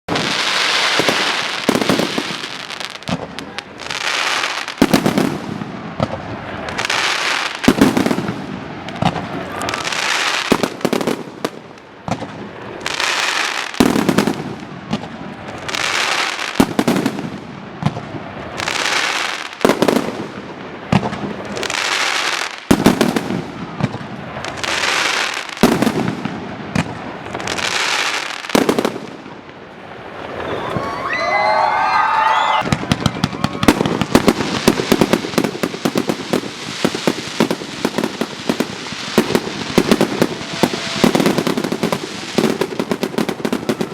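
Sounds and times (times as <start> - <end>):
firework bangs: 0.1 - 43.9
firework crackling: 0.1 - 43.9.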